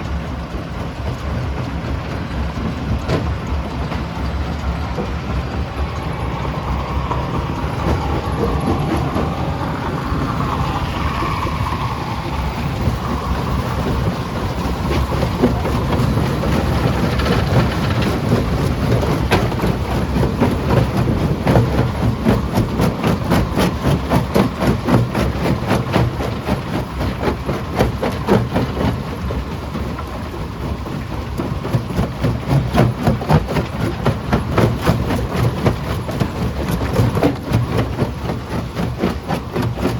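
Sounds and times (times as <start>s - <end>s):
jaw crusher rumbling: 0.0s - 39.9s.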